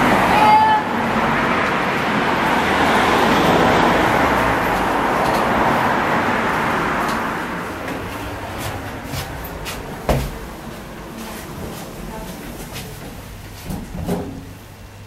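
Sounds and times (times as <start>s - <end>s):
vehicle passing: 0.0s - 12.5s.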